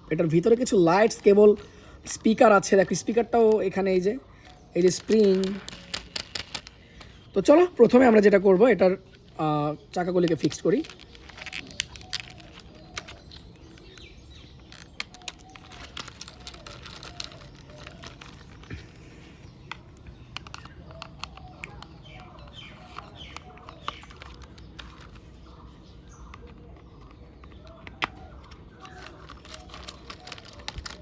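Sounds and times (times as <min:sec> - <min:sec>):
plastic toy parts clicking: 0:01.2 - 0:18.8, 0:19.4 - 0:31.0
bird chirps: 0:02.8 - 0:31.0.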